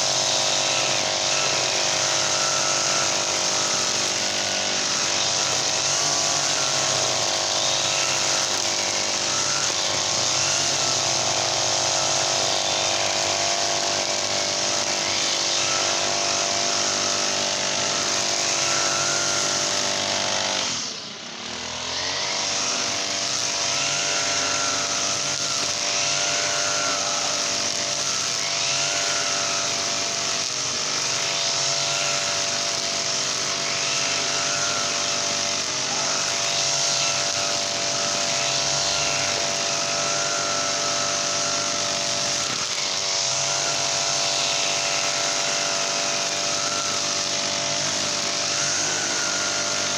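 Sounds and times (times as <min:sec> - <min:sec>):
brush cutter engine running: 0:00.0 - 0:49.9.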